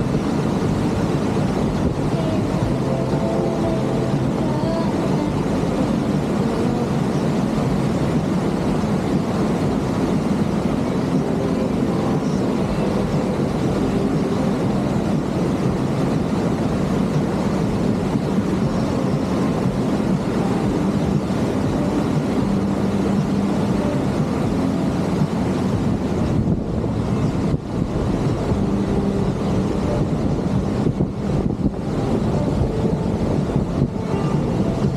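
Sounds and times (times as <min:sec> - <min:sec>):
water and wind buffeting microphone: 0:00.0 - 0:34.9.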